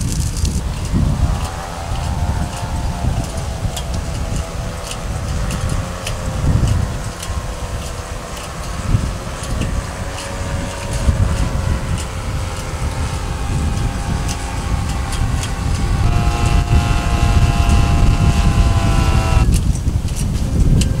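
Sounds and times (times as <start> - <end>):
distant motor drone: 0.0 - 21.0
wind buffeting microphone: 0.0 - 21.0.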